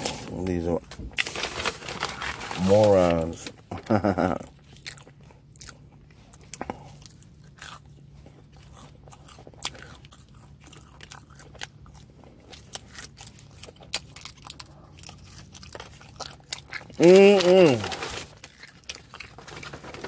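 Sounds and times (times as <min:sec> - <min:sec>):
chewing and crunching: 0:00.0 - 0:20.0
steady low hum: 0:00.0 - 0:20.0.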